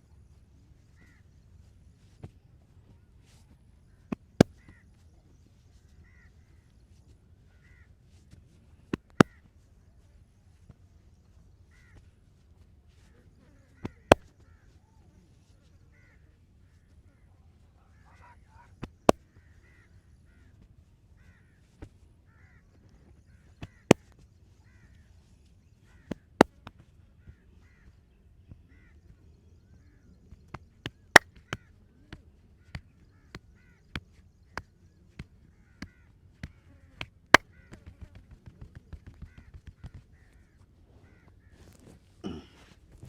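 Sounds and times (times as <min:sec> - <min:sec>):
crows cawing faintly: 0:00.3 - 0:10.6, 0:11.2 - 0:42.8.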